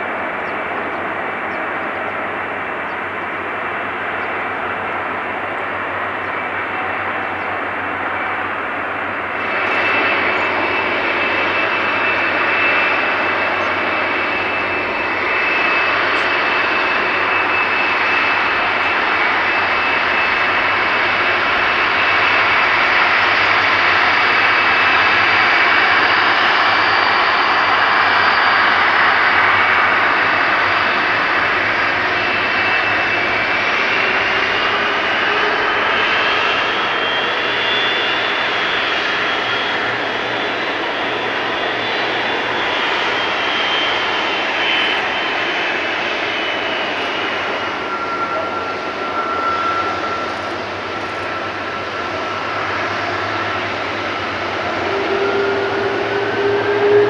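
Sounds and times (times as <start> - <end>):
jet engines hissing and whining: 0.0 - 57.0
low jet whine: 0.0 - 57.0.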